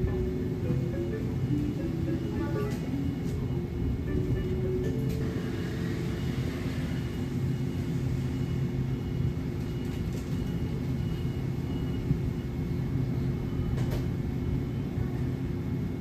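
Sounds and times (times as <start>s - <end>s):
faint high pulsing tone: 0.0s - 13.8s
low store background hum: 0.0s - 16.0s.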